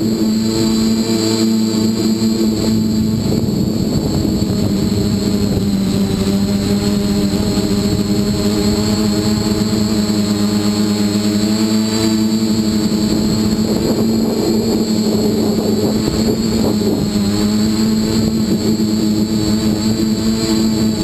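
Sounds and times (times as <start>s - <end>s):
drone motors and propellers humming: 0.0s - 21.0s.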